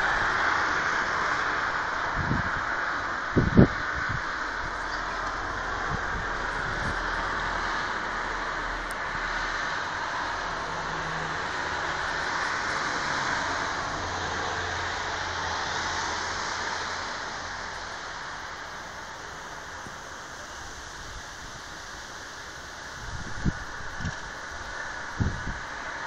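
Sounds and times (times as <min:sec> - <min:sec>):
passing traffic hum: 0:00.0 - 0:26.0
strong wind rushing: 0:00.0 - 0:26.0.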